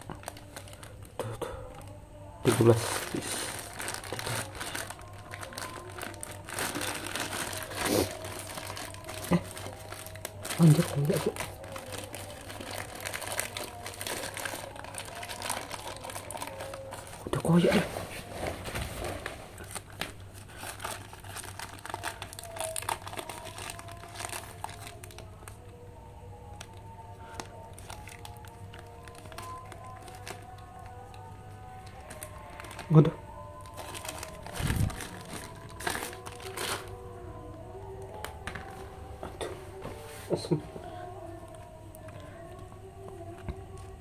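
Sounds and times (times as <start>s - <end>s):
plastic bag crinkling: 0.0s - 25.6s, 26.5s - 38.9s.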